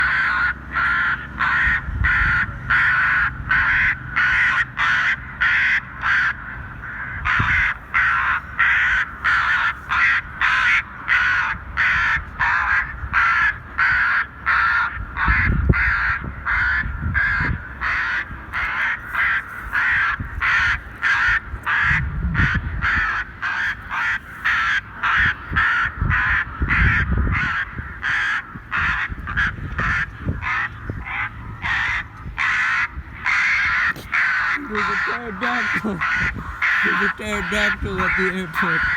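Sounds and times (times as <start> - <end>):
crow-like caws from loudspeaker: 0.0 - 38.9.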